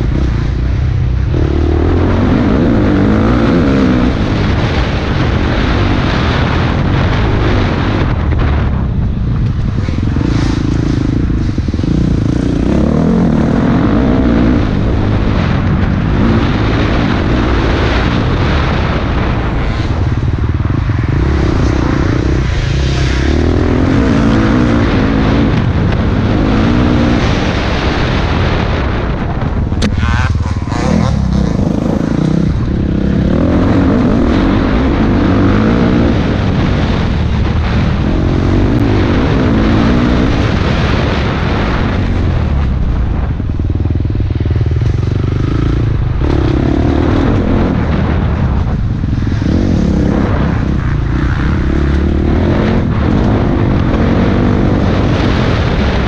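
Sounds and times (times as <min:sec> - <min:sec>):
dirt bike engine revving: 0:00.0 - 0:08.7, 0:09.4 - 0:42.6, 0:43.2 - 0:56.0.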